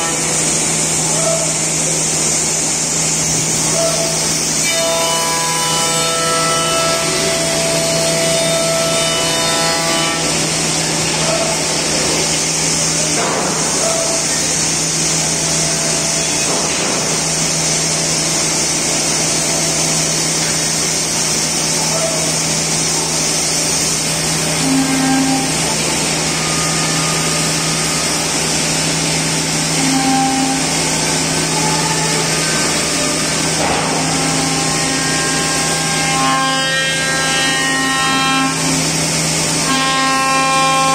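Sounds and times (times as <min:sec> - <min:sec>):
router cutting wood hiss: 0:00.0 - 0:40.9.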